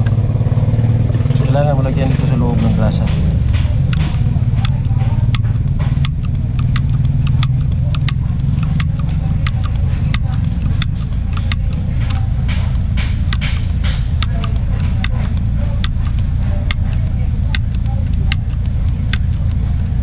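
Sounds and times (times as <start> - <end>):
engine idling: 0.0 - 20.0
grease gun clicking: 2.9 - 20.0.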